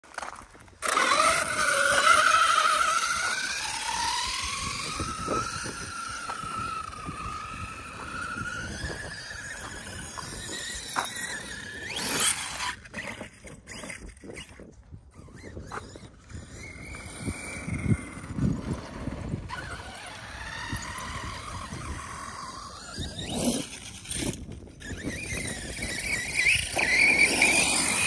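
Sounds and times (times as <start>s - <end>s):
rc truck motor whine: 0.2s - 28.0s.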